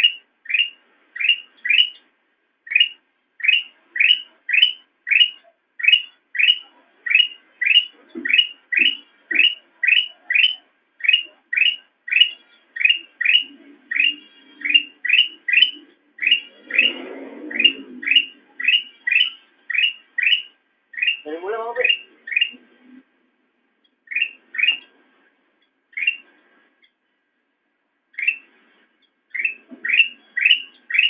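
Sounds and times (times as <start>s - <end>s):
bird rising chirp: 0.0s - 23.0s, 24.0s - 24.9s, 25.6s - 26.9s, 28.1s - 31.0s.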